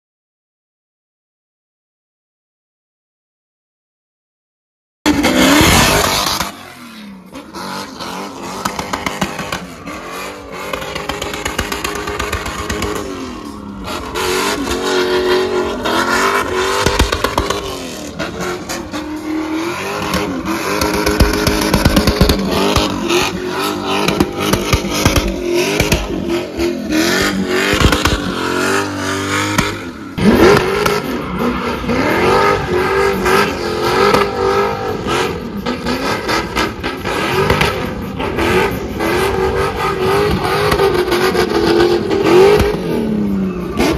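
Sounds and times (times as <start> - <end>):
exhaust crackles: 5.1 - 43.0
car engines revving: 5.1 - 43.9.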